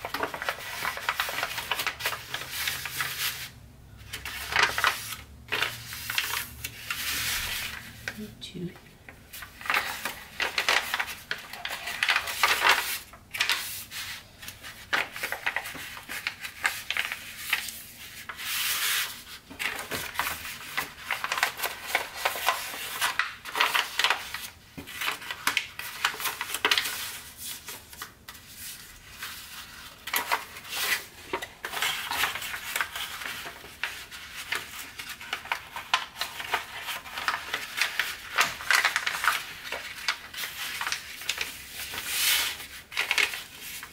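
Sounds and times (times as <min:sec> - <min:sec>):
paper crinkling and rustling: 0:00.0 - 0:08.2, 0:09.0 - 0:43.9.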